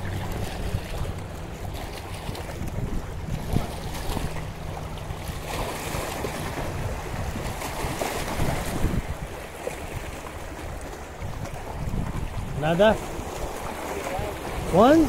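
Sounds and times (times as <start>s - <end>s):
choppy lake water: 0.0s - 15.0s
wind buffeting microphone: 0.0s - 15.0s.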